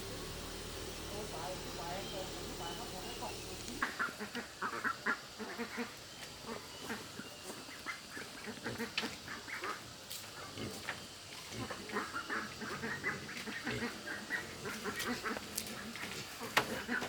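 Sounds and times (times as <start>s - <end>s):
ducks quacking: 1.6s - 10.8s, 11.5s - 17.0s.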